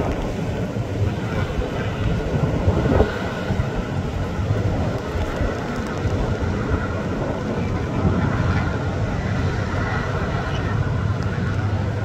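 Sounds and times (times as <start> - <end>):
turboprop airliner engines droning: 0.0 - 12.0.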